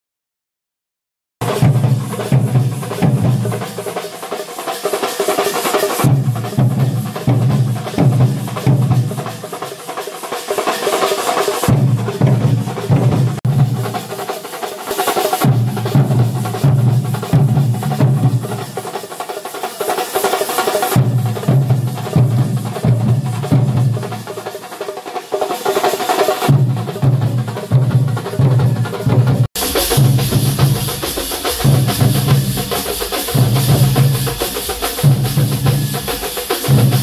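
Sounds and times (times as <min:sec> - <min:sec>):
barrel drums playing fast rhythm: 0:01.4 - 0:37.0.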